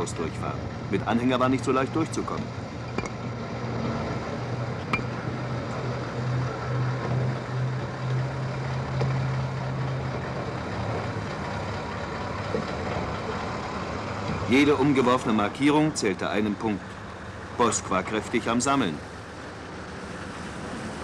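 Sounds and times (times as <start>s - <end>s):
lorry engine running: 0.0s - 21.0s
road noise: 0.0s - 21.0s.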